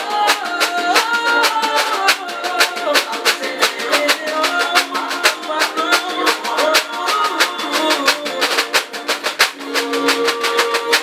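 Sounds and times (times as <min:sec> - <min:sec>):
pagode song: 0:00.0 - 0:11.0
scraper scraped rhythmically: 0:00.0 - 0:11.0.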